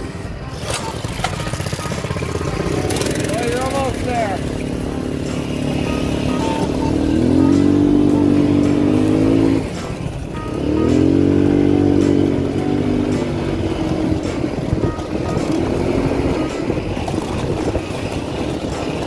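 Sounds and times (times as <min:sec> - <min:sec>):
small motorbike engine revving: 0:00.4 - 0:19.0.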